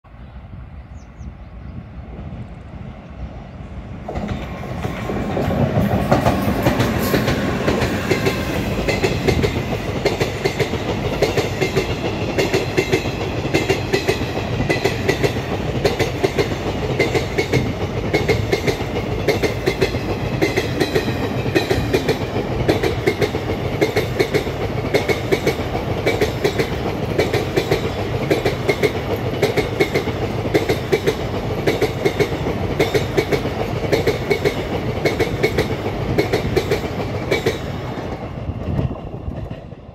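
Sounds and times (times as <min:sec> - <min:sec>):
freight train passing: 0:00.0 - 0:39.9
wheels clacking over rail joints: 0:04.0 - 0:39.7.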